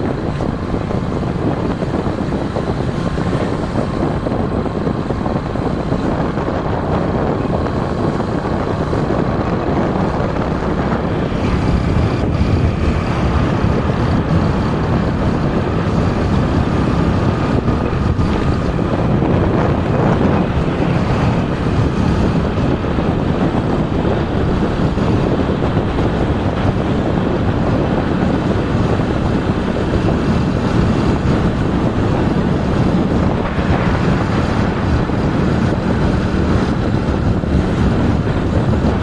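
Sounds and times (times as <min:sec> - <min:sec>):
motorcycle engine and road rumble: 0:00.0 - 0:39.0
wind buffeting microphone: 0:00.0 - 0:39.0.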